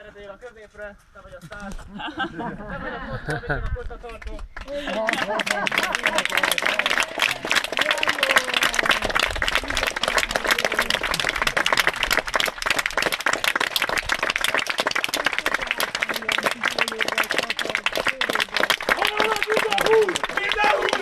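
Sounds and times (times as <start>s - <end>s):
audience applauding: 4.2s - 21.0s.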